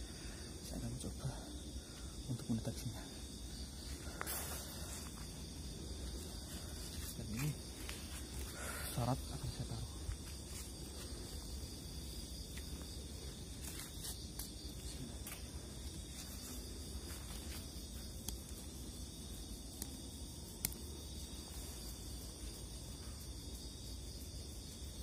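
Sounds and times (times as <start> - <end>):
crickets and insects chirring: 0.0 - 25.0.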